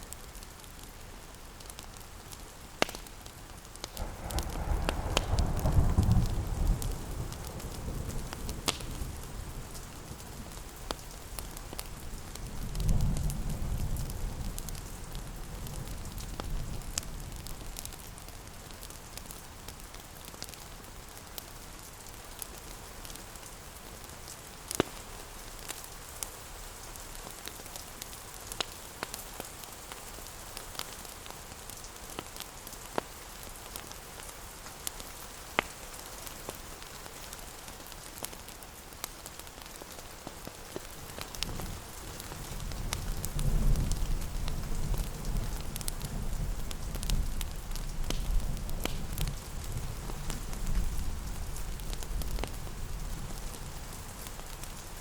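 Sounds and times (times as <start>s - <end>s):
rain hiss: 0.0s - 55.0s
wood fire crackling: 0.0s - 55.0s.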